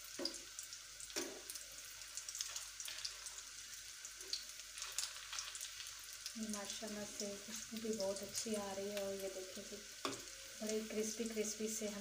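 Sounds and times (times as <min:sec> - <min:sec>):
hot oil sizzling and popping: 0:00.0 - 0:12.0.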